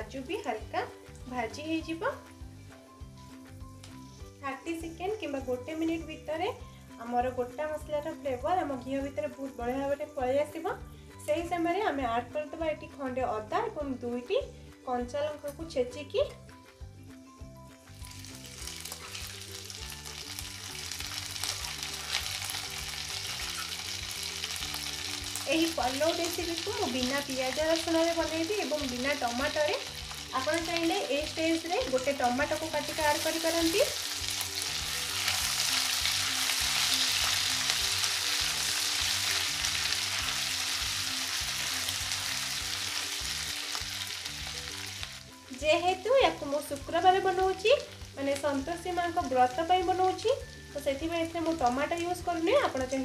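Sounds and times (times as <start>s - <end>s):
hot oil sizzling in a pan: 0.0s - 7.2s, 17.5s - 53.0s.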